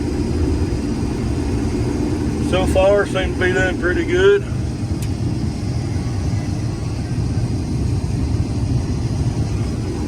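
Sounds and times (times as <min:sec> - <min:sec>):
combine harvester rumbling: 0:00.0 - 0:10.0.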